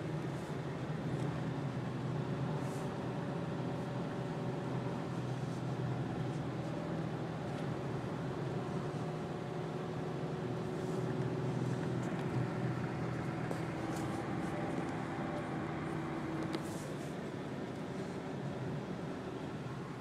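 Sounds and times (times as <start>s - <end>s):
car engine running: 0.0s - 20.0s
tyre noise on snowy road: 0.0s - 20.0s.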